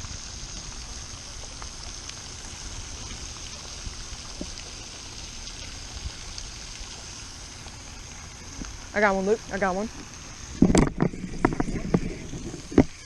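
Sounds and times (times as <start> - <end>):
continuous high hiss: 0.0 - 13.0
low rumble: 0.0 - 13.0.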